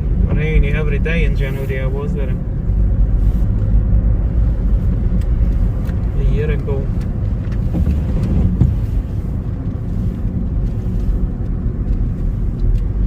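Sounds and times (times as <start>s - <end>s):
car interior road and engine noise: 0.0s - 13.0s.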